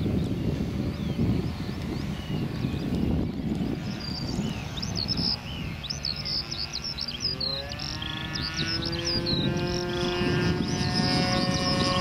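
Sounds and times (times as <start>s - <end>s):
model plane engine droning: 0.0s - 12.0s
small birds chirping: 0.0s - 12.0s.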